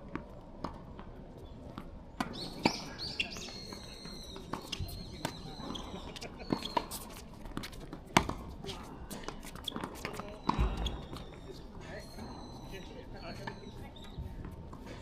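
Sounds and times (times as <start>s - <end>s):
shoes squeaking on court floor: 1.2s - 15.0s.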